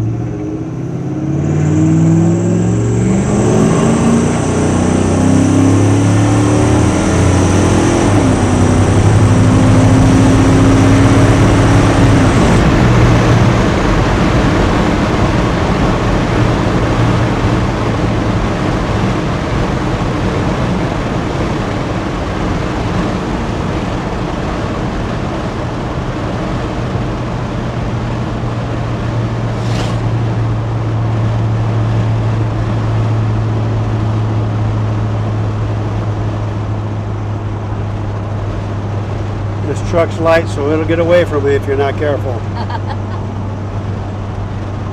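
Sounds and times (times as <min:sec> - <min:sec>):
pickup engine and exhaust rumble: 0:00.0 - 0:44.9
wind and road noise: 0:00.0 - 0:44.9.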